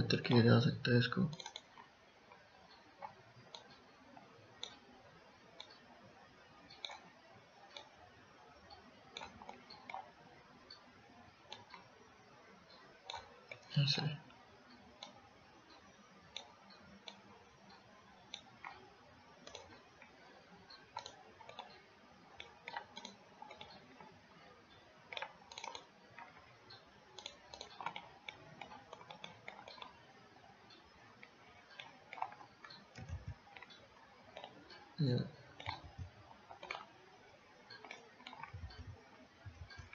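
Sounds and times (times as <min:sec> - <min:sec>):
computer mouse clicking: 0:01.1 - 0:39.9.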